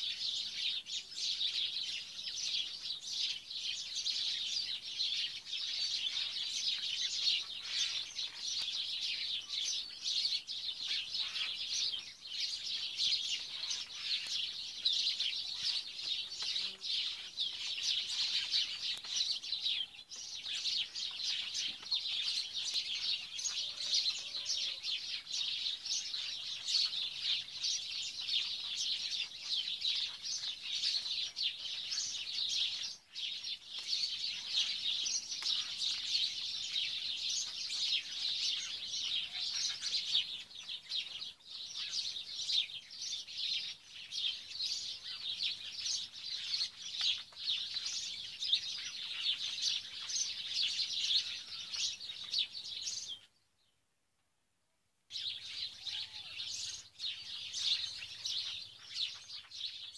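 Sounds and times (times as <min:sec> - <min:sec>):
small birds chirping: 0:00.0 - 0:53.9, 0:55.1 - 0:59.9.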